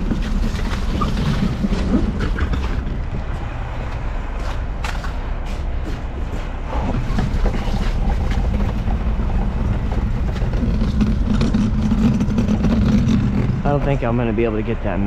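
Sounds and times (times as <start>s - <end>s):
truck engine straining: 0.0s - 15.0s.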